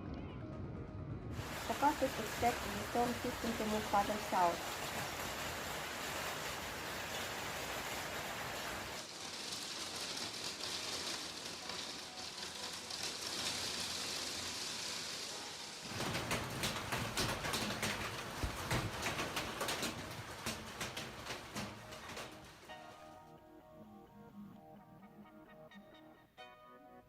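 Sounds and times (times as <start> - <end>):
heavy rain hissing: 1.3 - 23.0
hailstones striking hard surface: 1.4 - 23.0.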